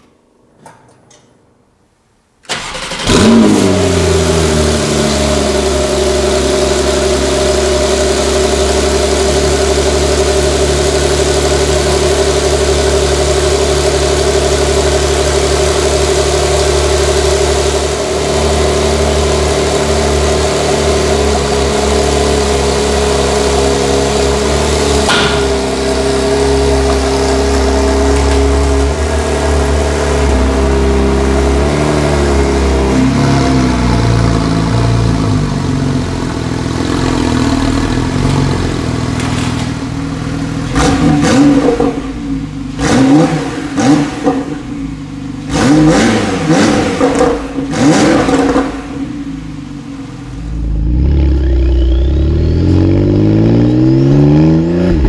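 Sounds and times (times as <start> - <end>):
car engine idling: 2.5 - 54.3.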